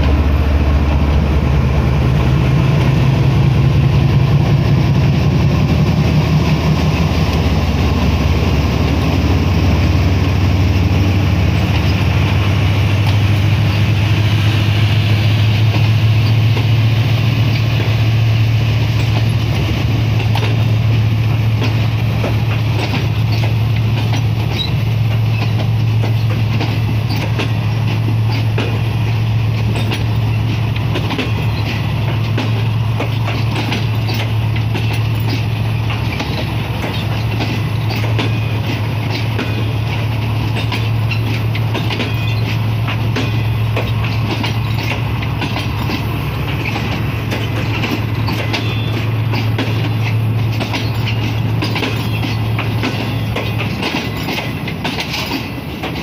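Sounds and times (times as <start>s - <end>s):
locomotive engine drone: 0.0s - 56.0s
wheels clattering on rails: 0.0s - 56.0s.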